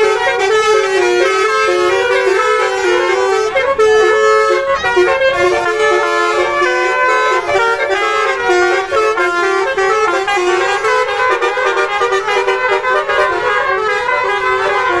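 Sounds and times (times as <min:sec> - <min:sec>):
multi-tone car horn playing a tune: 0:00.0 - 0:15.0.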